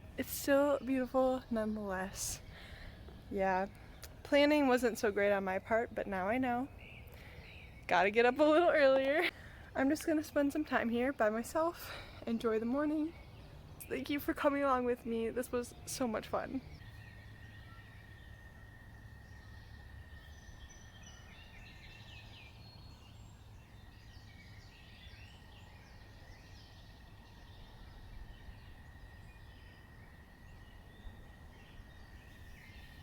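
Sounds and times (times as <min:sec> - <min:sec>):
distant birds chirping: 0:00.0 - 0:33.0.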